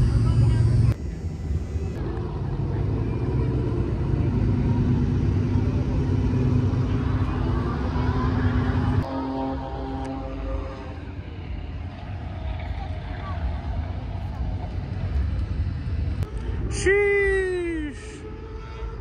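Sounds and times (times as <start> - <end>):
car engines rumbling: 0.0 - 19.0.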